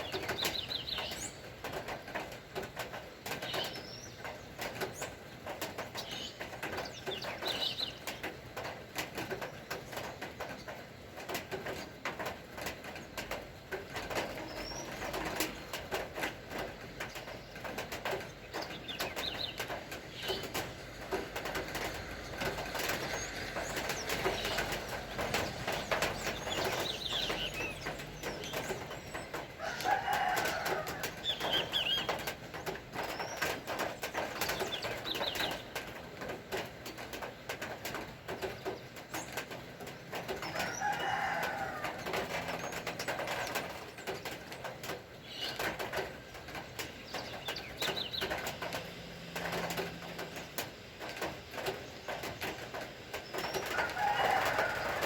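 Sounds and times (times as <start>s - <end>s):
birds chirping: 0.0s - 2.3s, 2.9s - 8.4s, 14.0s - 36.0s, 38.0s - 55.0s
rain pattering: 0.0s - 55.0s.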